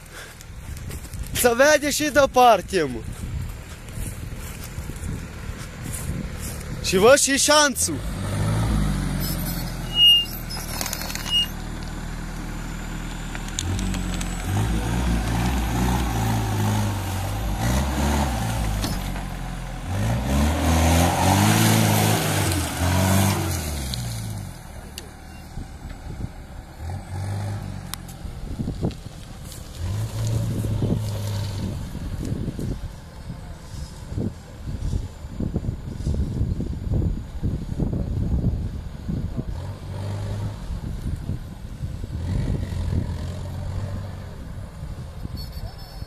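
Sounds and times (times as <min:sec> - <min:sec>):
off-road vehicle engine revving: 0:04.4 - 0:35.1, 0:39.0 - 0:45.5.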